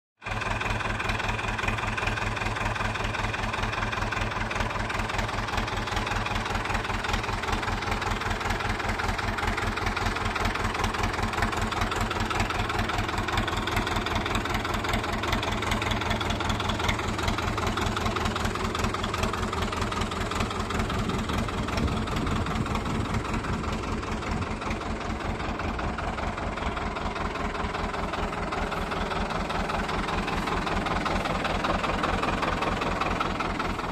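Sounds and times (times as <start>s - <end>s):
tractor diesel engine idling: 0.2s - 33.9s.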